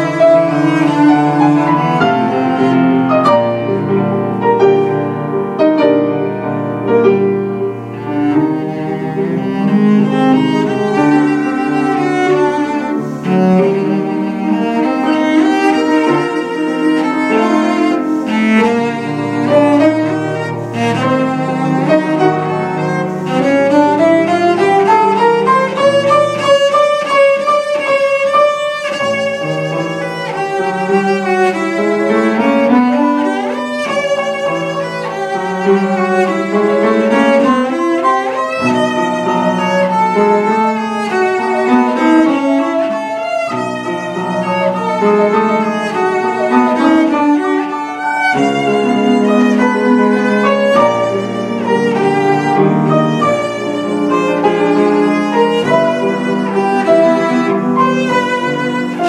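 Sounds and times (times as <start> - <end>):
cello played with bow: 0.0 - 59.0
piano accompaniment: 0.0 - 59.0.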